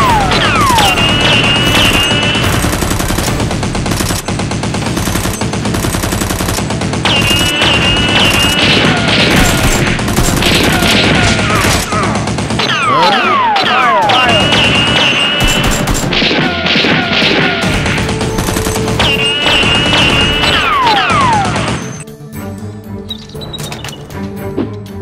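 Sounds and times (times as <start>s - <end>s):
automatic gunfire: 0.0s - 22.0s.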